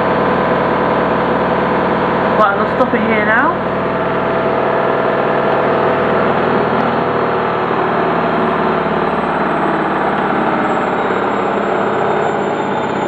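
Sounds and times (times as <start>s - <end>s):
washing machine spinning: 0.0s - 13.0s.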